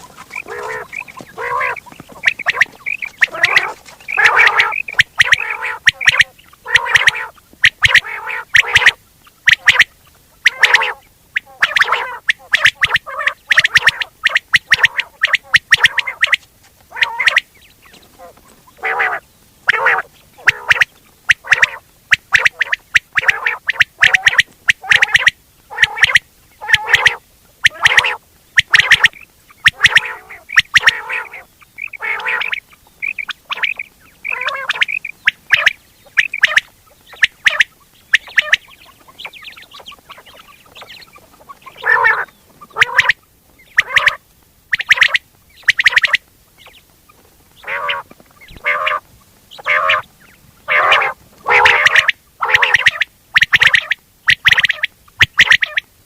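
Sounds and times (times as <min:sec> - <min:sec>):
quail calling: 0:00.0 - 0:55.9.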